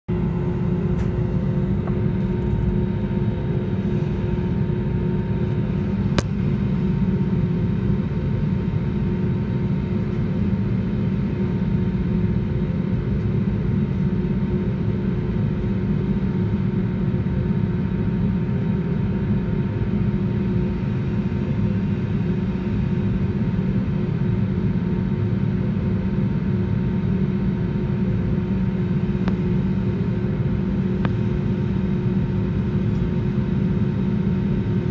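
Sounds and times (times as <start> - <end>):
jet engines humming in cabin: 0.1 - 34.9.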